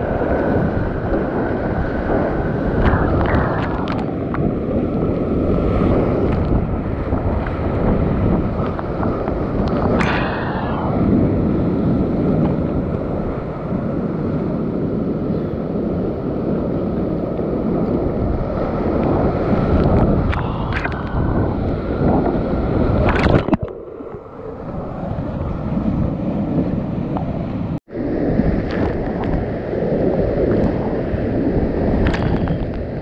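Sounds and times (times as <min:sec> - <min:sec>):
water spray buffeting microphone: 0:00.0 - 0:33.0.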